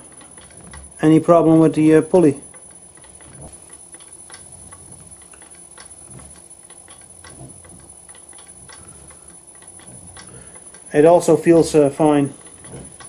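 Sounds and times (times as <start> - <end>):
lathe motor low hum: 0.0 - 13.0
light irregular ticking: 0.0 - 13.0.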